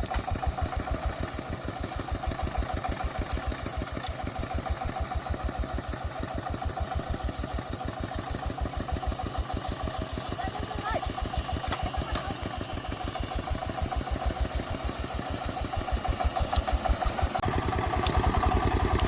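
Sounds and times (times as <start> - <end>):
truck engine chugging: 0.0 - 19.0.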